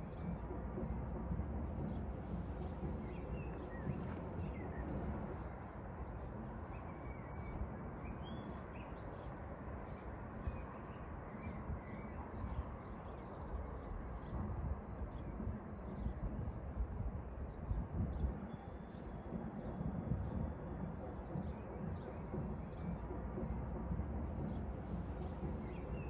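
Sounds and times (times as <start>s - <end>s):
small birds chirping: 0.0s - 16.6s, 17.4s - 26.0s
low city background rumble: 0.0s - 26.0s.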